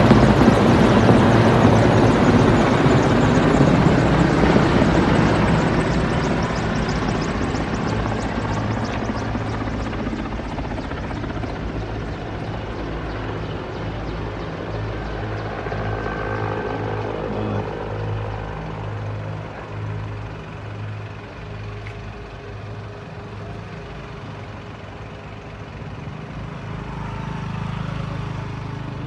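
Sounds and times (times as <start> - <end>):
helicopter rotor beating: 0.0 - 29.0.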